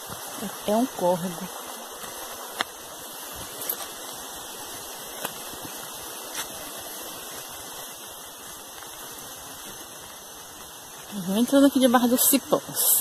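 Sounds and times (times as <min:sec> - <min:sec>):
forest stream running: 0:00.0 - 0:13.0.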